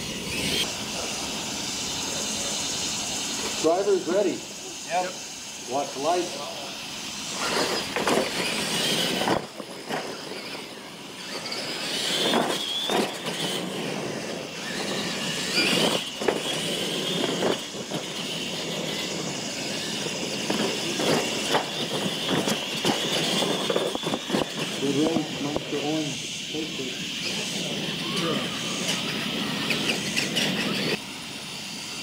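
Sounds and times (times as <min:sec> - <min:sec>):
electric motors whining: 0:00.0 - 0:32.0.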